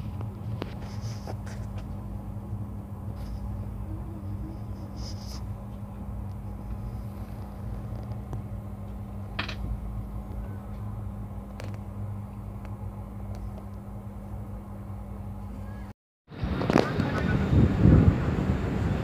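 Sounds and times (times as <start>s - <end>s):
constant hum: 0.0s - 19.0s
train coach rumble: 0.0s - 19.0s.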